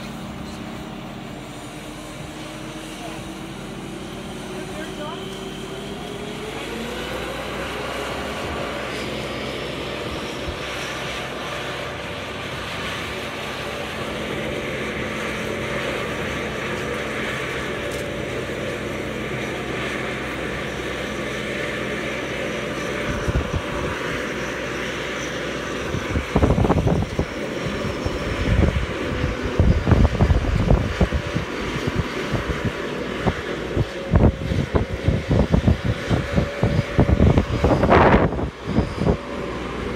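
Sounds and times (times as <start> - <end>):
crane diesel engine running: 0.0 - 39.9
wind buffeting microphone: 6.2 - 39.9.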